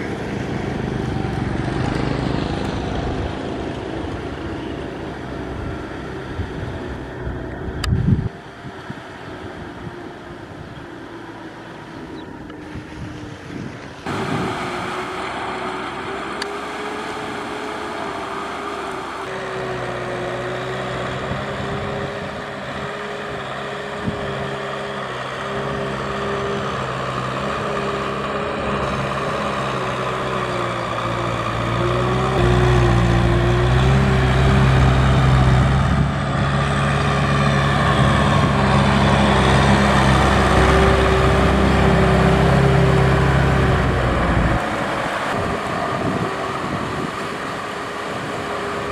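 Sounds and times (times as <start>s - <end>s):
drone propellers whining: 0.0s - 48.9s
tractor diesel engine running: 0.0s - 48.9s.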